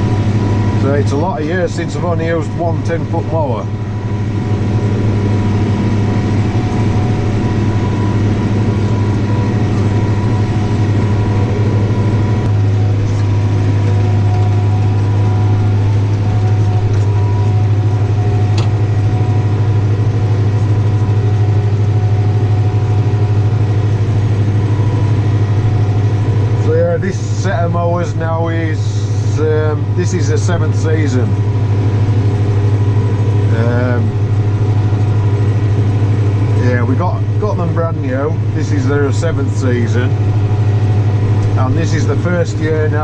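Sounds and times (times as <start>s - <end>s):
faint mower whine: 0.0s - 43.0s
tractor engine drone: 0.0s - 43.0s.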